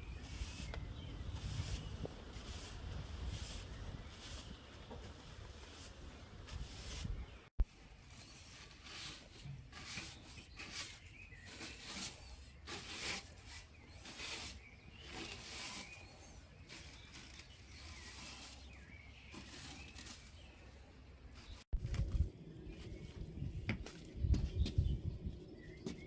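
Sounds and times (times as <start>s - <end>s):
rustling brushing strokes: 0.0s - 22.2s.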